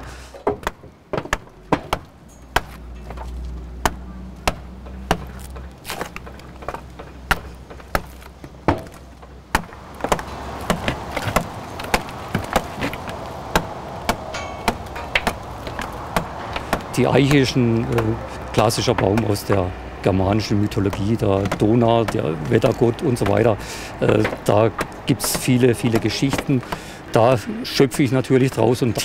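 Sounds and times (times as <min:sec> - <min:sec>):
tools knocking on wood: 0:00.4 - 0:18.2, 0:18.8 - 0:19.6, 0:20.6 - 0:26.8.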